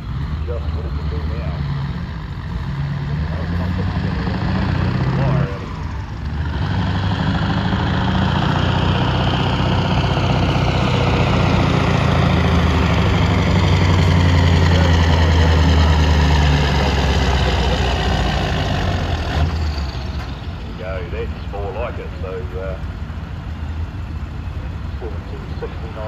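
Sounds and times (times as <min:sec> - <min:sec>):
diesel truck engine under heavy load: 0:00.0 - 0:26.0.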